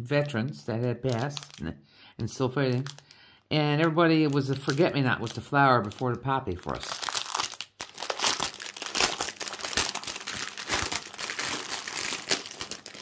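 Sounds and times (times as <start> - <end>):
plastic packaging crinkling: 0.7 - 1.7, 2.3 - 13.0.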